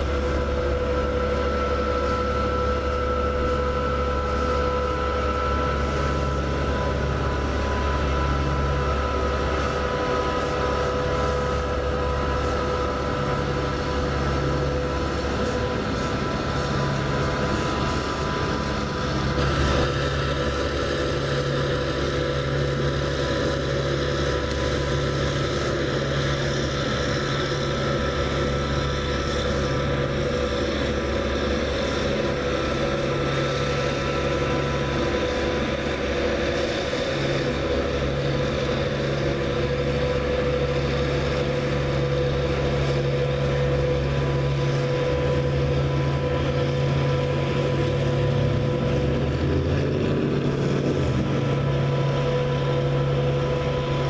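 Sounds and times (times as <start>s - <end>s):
mechanical drone with whining: 0.0s - 54.0s.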